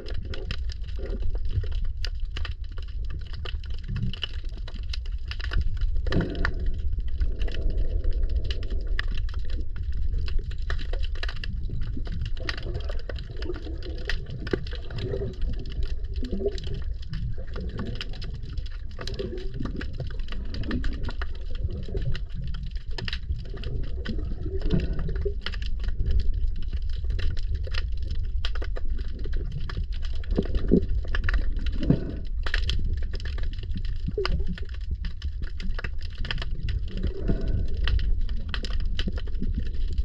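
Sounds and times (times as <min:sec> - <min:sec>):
bubbling gurgles: 0:00.0 - 0:40.0
crackle of tiny clicks: 0:00.0 - 0:40.0
underwater rumble of moving water: 0:00.0 - 0:40.0.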